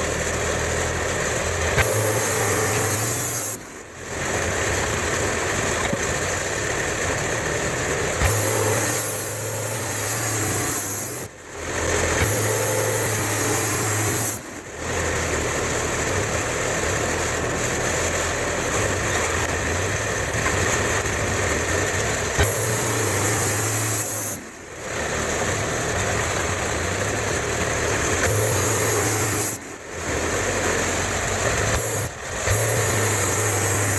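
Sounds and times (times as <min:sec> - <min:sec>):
engine-driven sawmill running: 0:00.0 - 0:33.9.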